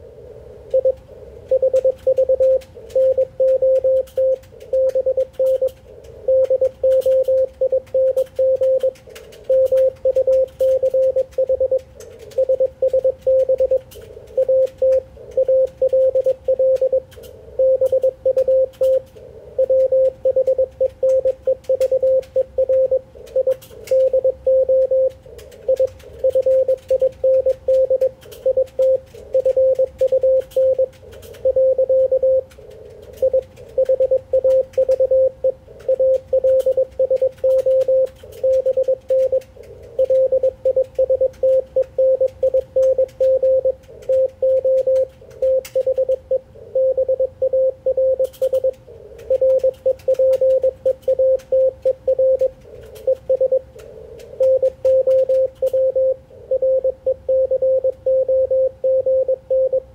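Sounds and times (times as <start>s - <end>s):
faint radio band noise: 0.0s - 59.9s
static clicks: 0.0s - 59.9s
morse code tone: 0.7s - 19.0s, 19.6s - 32.5s, 33.2s - 52.5s, 53.1s - 53.6s, 54.4s - 59.9s.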